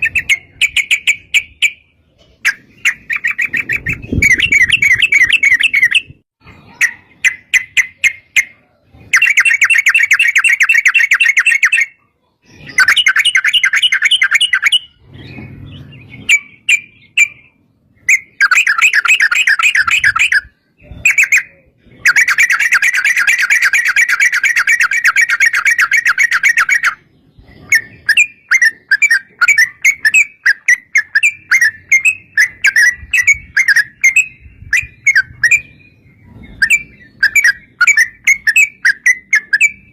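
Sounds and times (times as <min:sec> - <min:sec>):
bulbul singing chattering trills: 0:00.0 - 0:39.9.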